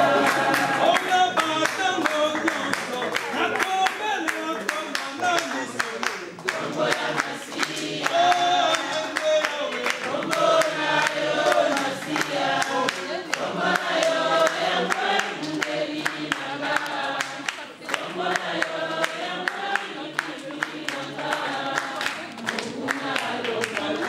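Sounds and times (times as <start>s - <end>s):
group of people singing: 0.0s - 24.0s
hand claps: 0.0s - 24.0s.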